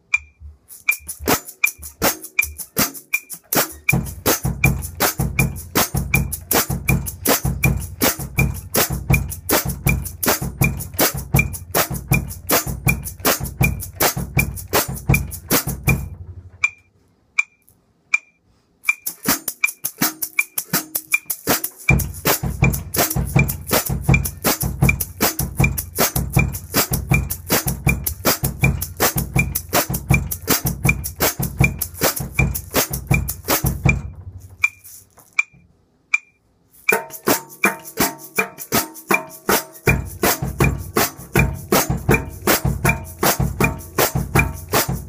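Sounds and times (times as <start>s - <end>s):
metronome click: 0.0s - 14.1s, 15.2s - 38.4s
shaker stick shaking: 0.5s - 16.1s, 18.8s - 35.6s, 36.7s - 45.0s.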